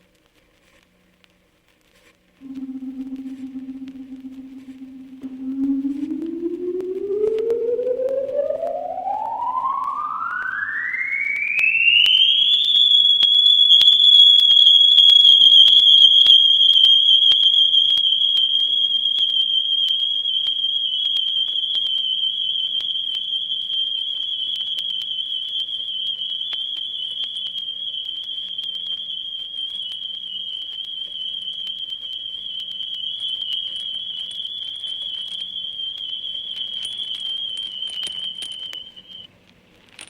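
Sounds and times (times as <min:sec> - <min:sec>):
record crackle: 0:00.0 - 0:40.0
rising electronic whistling tone: 0:02.4 - 0:39.3.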